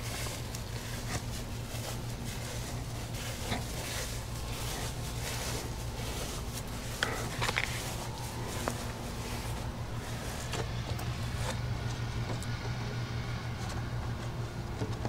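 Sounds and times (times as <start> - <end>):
faint rustles and clicks: 0.0 - 15.0
steady low hum: 0.0 - 15.0.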